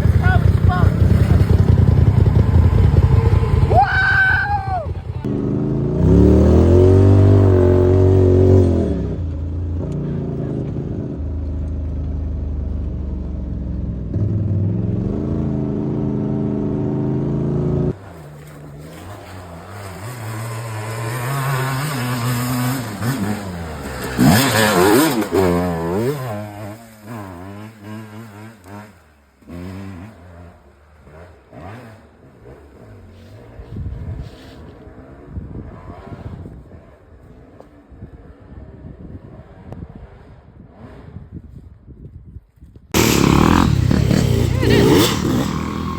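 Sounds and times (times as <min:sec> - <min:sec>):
dirt bike engine revving: 0:00.0 - 0:11.4, 0:13.8 - 0:41.5, 0:43.0 - 0:45.9
dirt bike passing by: 0:00.0 - 0:45.9.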